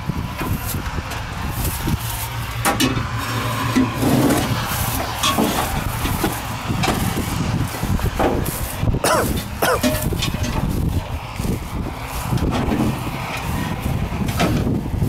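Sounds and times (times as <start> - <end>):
wind on microphone: 0.0 - 15.0
footsteps crunching on straw: 0.2 - 15.0.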